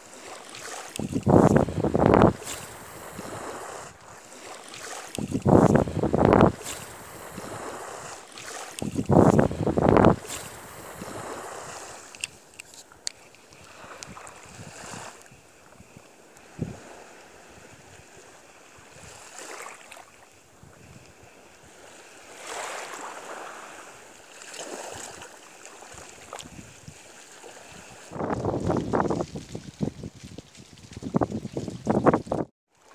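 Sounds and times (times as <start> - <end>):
water lapping: 0.0 - 32.9
wind gusting on microphone: 0.7 - 4.2, 4.8 - 12.4, 13.5 - 19.4, 20.5 - 23.8, 25.9 - 32.5.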